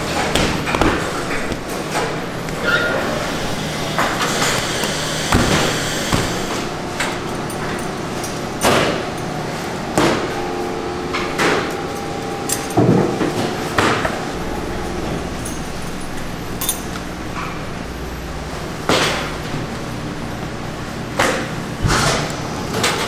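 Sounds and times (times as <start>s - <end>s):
machinery hum: 0.0s - 23.0s.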